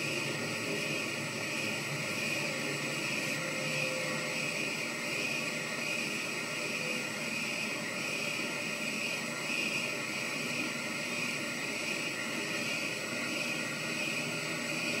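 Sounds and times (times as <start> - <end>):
lathe whirring: 0.0 - 15.0.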